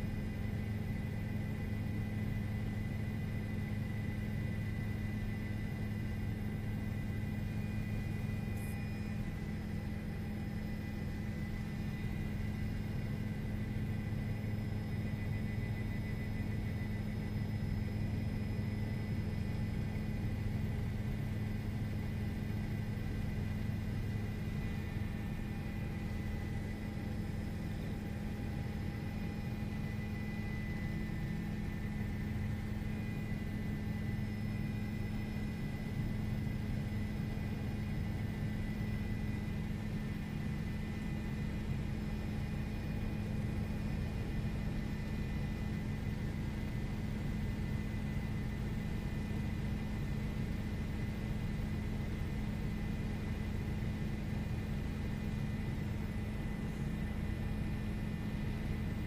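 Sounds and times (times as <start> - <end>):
helicopter engine and rotors drone: 0.0 - 59.0.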